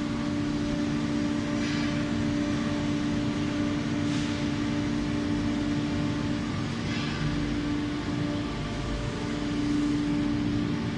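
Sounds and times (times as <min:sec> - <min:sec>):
baler machine hum: 0:00.0 - 0:10.9.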